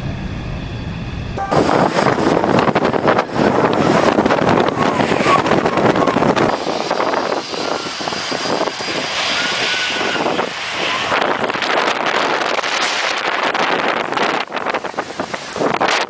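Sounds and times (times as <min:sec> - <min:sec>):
jet blast buffeting microphone: 0:00.0 - 0:16.0
jet engines at takeoff power: 0:00.0 - 0:16.0.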